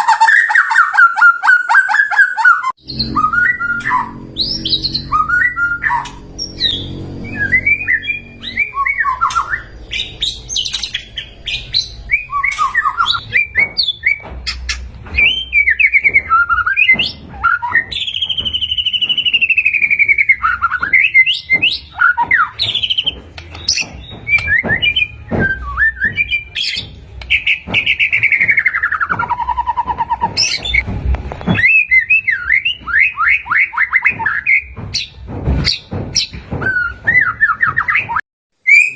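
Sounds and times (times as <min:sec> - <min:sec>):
bird singing whistles and trills: 0:00.0 - 0:30.8, 0:35.7 - 0:38.9.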